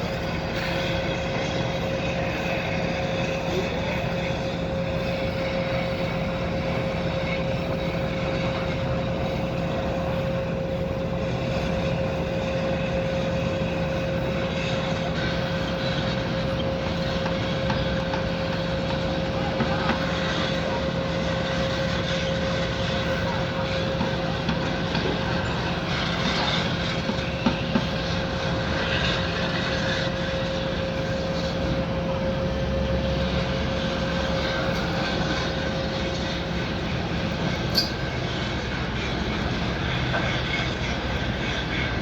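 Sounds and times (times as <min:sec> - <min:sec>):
low engine drone: 0:00.0 - 0:42.0
machinery whine: 0:00.0 - 0:42.0.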